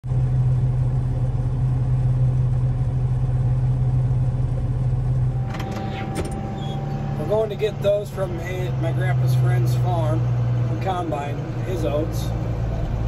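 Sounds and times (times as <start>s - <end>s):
combine diesel engine drone: 0.0s - 13.0s.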